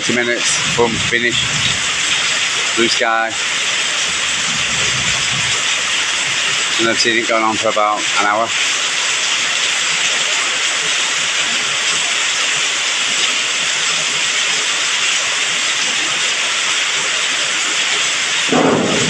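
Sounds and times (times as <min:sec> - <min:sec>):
heavy rain downpour: 0:00.0 - 0:19.0.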